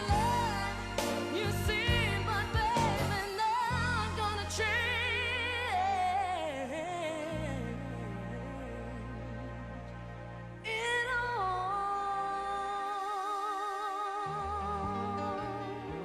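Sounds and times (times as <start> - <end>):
lead melody with vibrato: 0.0 - 13.0, 14.1 - 16.0
bass: 0.0 - 13.1, 14.2 - 16.0.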